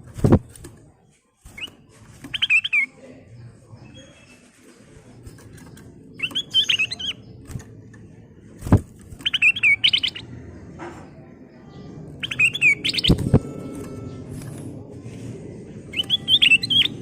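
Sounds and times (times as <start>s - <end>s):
bulbul singing: 1.5s - 4.4s, 5.1s - 14.9s, 15.8s - 17.0s.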